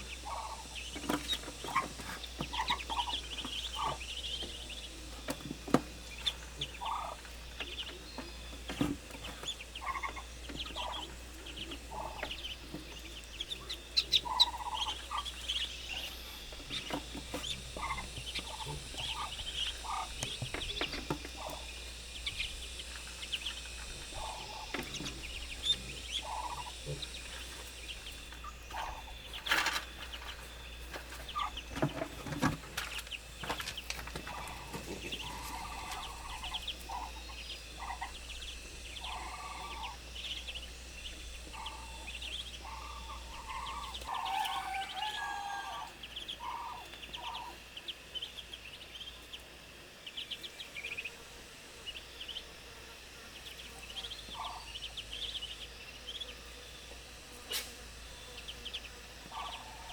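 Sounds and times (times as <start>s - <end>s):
poultry calling: 0.0s - 59.9s.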